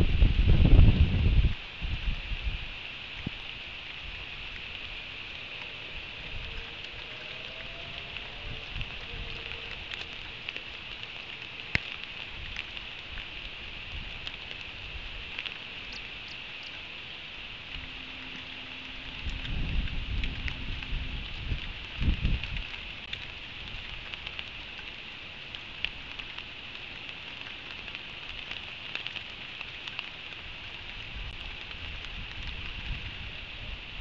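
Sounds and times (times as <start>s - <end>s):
steady rain hiss: 0.0s - 34.0s
raindrops ticking: 1.5s - 34.0s.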